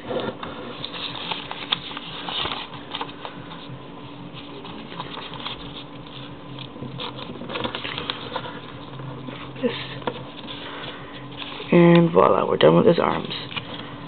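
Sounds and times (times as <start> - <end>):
paper rustling and crinkling: 0.0 - 13.9.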